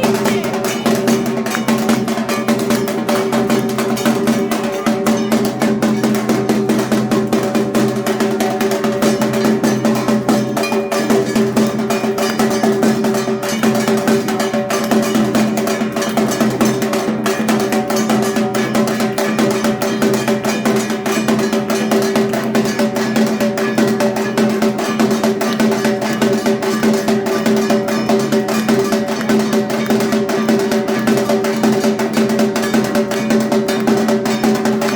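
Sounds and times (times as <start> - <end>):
drums beaten in fast rhythm: 0.0 - 34.9
metallic clanging percussion: 0.0 - 34.9.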